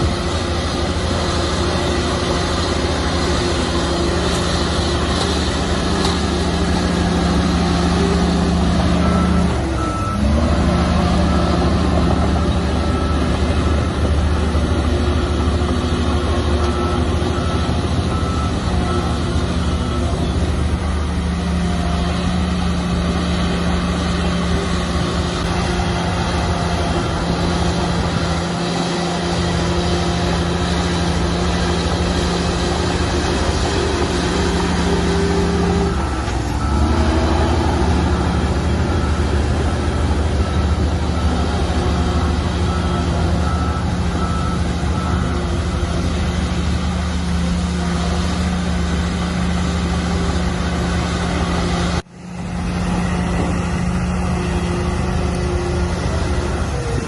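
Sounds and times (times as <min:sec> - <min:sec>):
reversing alarm beeping: 0:00.0 - 0:52.0
heavy diesel engines running: 0:00.0 - 0:57.0.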